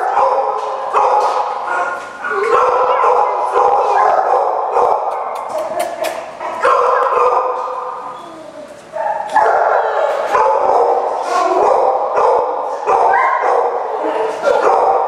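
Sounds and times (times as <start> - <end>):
dogs barking and yipping: 0.0 - 8.0, 8.6 - 15.0.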